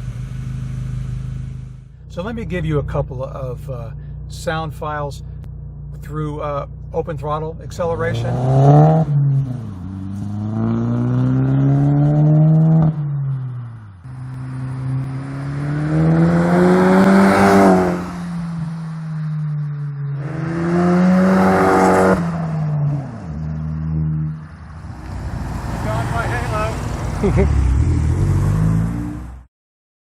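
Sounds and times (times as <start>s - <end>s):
car exhaust accelerating: 0.0s - 29.4s.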